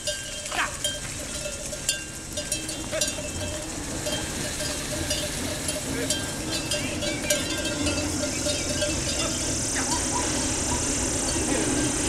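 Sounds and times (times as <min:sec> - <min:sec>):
livestock bells clinking: 0:00.0 - 0:12.0.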